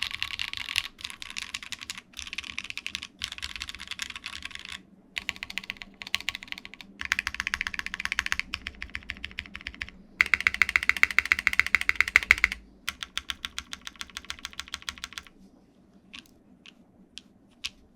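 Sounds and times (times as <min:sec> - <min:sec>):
mechanical keyboard typing: 0:00.0 - 0:15.3, 0:16.2 - 0:17.9.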